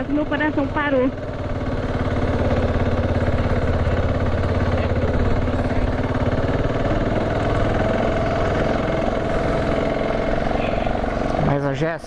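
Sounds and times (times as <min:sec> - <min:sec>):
motorcycle engine running under load: 0:00.0 - 0:12.0.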